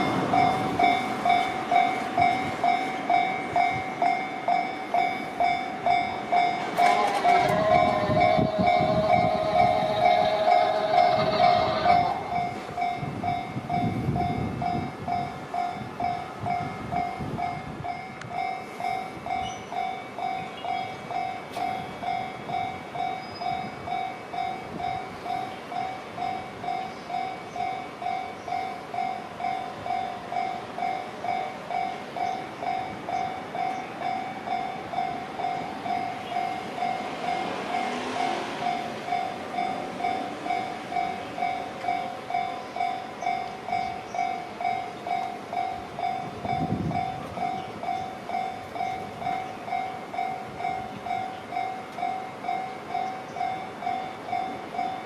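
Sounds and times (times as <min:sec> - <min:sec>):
level crossing alarm ringing: 0:00.0 - 0:55.0
train rumbling: 0:00.0 - 0:55.0.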